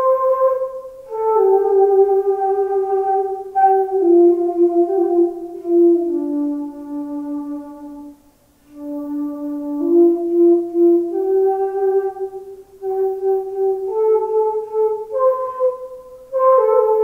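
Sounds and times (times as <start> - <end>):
solo flute slow melody: 0.0 - 17.0.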